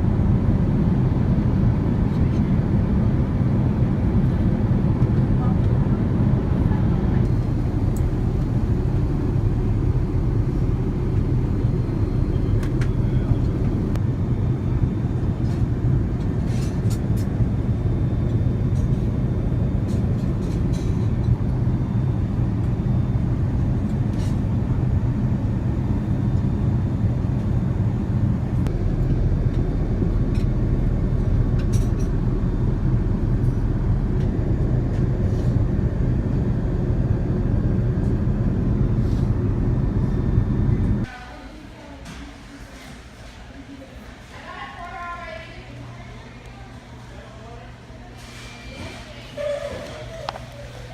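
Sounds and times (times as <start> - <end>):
aircraft cabin drone: 0.0 - 41.3.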